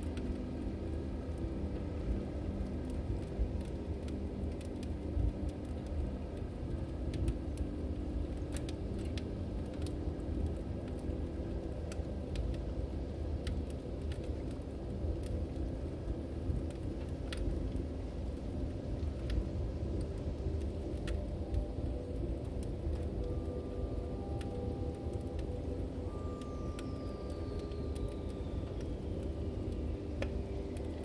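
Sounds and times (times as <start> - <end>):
fire low rumble: 0.0 - 31.0
logs crackling and popping: 0.0 - 31.0.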